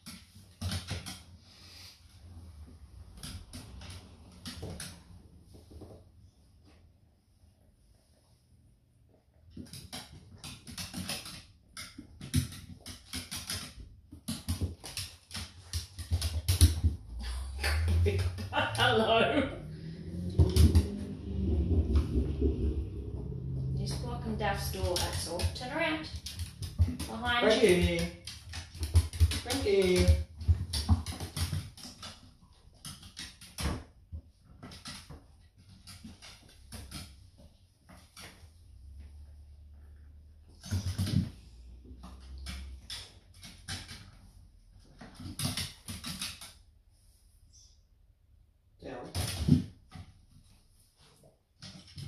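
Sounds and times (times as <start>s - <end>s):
dog claws clicking on floorboards: 0.0s - 1.8s, 2.6s - 6.0s, 9.5s - 18.8s, 20.1s - 39.3s, 40.5s - 46.7s, 49.0s - 52.0s.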